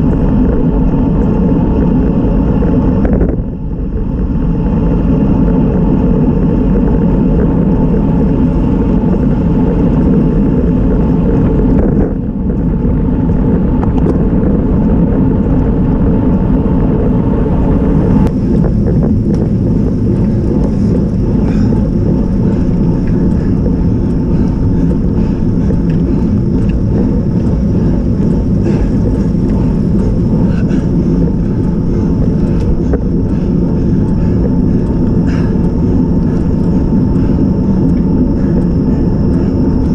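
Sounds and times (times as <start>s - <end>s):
road rumble: 0.0s - 39.9s
wind buffeting microphone: 0.0s - 39.9s.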